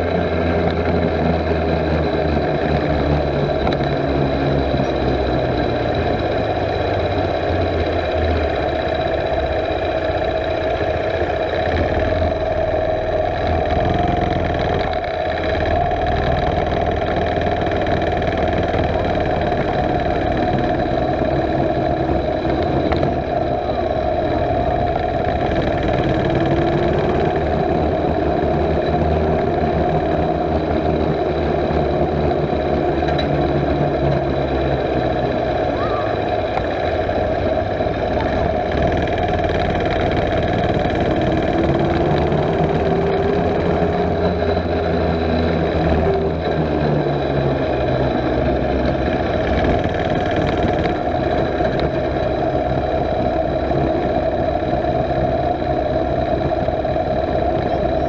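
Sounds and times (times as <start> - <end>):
small gas engine revving: 0.0 - 58.0.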